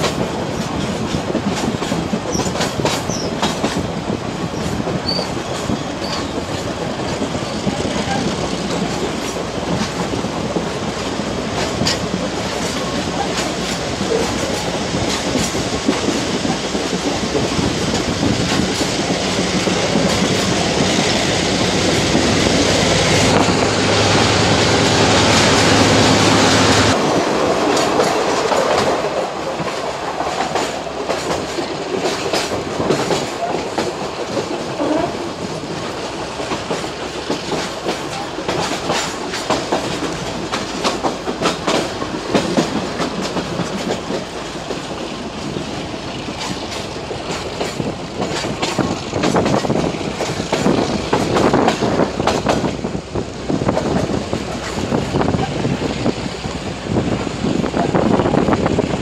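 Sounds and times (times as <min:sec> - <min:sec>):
diesel locomotive hum: 0:00.0 - 0:59.0
train wheels clattering over rail joints: 0:00.0 - 0:59.0.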